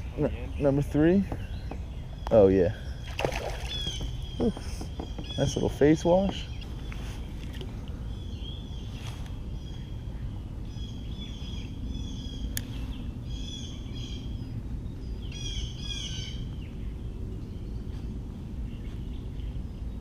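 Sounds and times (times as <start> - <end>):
low outdoor rumble: 0.0 - 20.0
songbirds chirping: 0.0 - 20.0.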